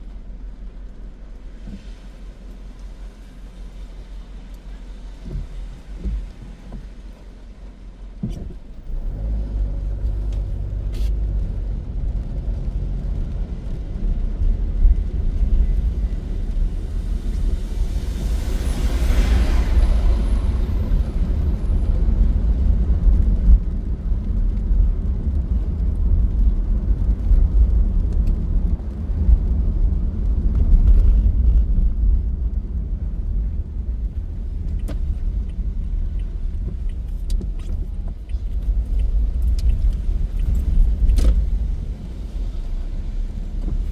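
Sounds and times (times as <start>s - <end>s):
car driving on wet road: 0.0s - 43.9s.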